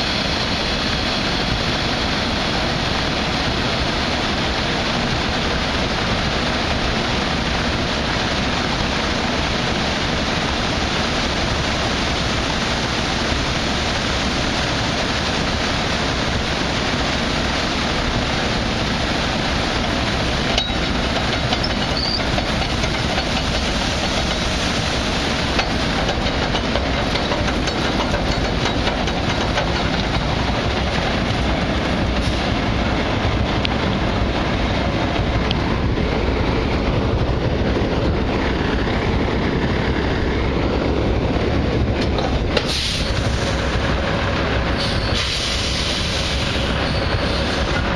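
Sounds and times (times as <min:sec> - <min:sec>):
grain pouring rushing hiss: 0:00.0 - 0:41.8, 0:42.4 - 0:47.9
conveyor running: 0:00.0 - 0:45.1.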